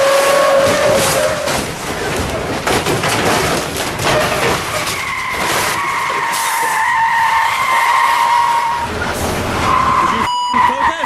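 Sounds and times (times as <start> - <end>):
traffic rushing: 0.0 - 11.0
tyres squealing: 0.0 - 11.0.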